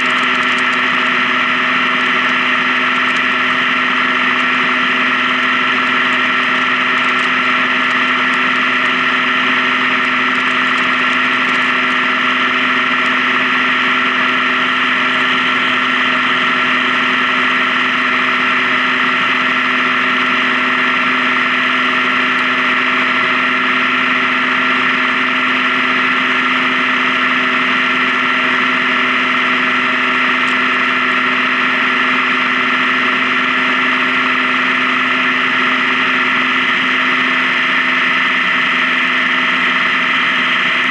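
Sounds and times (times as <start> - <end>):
motorcycle engine drone: 0.0 - 40.9.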